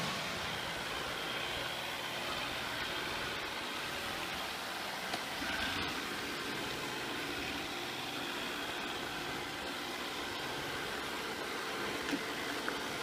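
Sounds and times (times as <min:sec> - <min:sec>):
robot vacuum cleaner whirring: 0:00.0 - 0:13.0.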